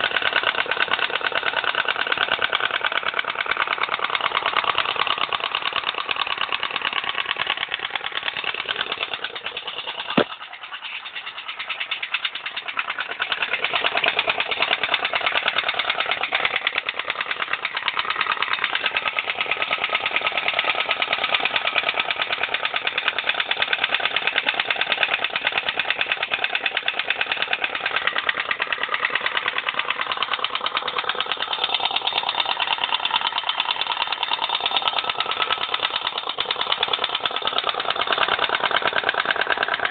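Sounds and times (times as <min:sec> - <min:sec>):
motorcycle engine ticking: 0:00.0 - 0:39.9.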